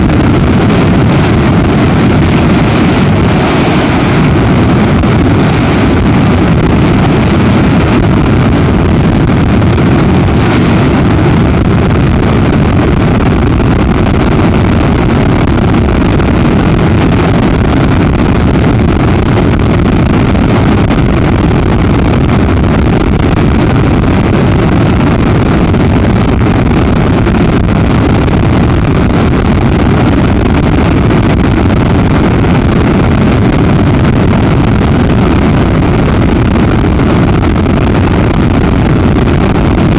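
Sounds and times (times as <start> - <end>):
strong wind buffeting microphone: 0.0 - 39.9.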